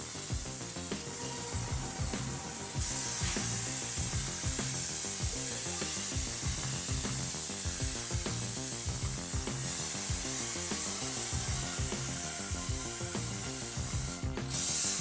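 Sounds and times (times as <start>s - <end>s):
aerosol spray hissing: 0.0s - 15.0s.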